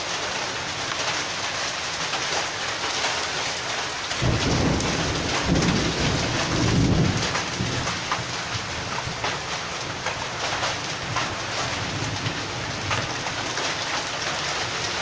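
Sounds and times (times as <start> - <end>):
hailstones ticking on surfaces: 0.0 - 15.0
heavy rain and hail: 0.0 - 15.0.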